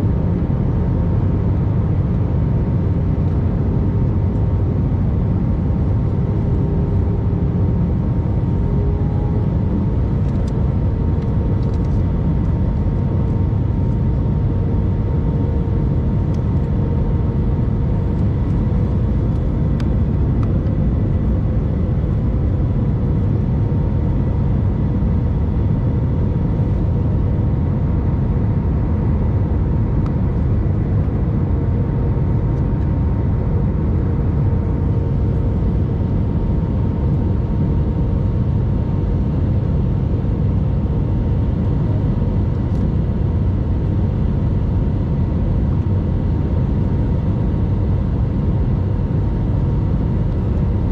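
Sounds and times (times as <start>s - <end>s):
jet airliner engines rumbling: 0.0s - 50.9s.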